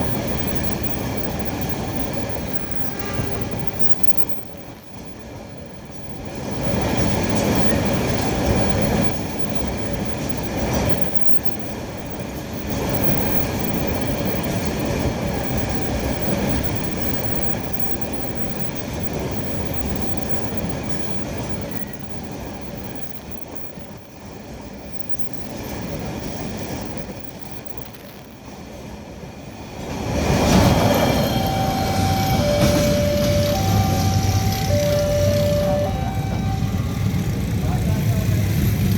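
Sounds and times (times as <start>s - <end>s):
two-tone warning sound: 0.0s - 28.2s, 30.5s - 37.9s
train wheels rattling on track: 0.0s - 38.9s.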